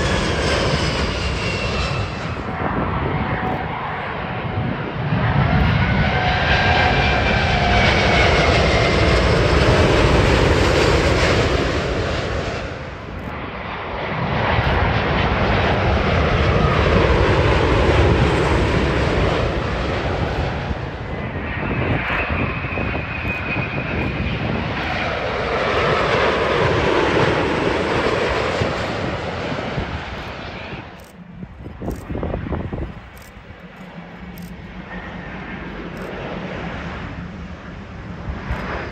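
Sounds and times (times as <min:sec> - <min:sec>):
jet airliner engine roar: 0:00.0 - 0:38.9
steady high whine: 0:00.0 - 0:38.9.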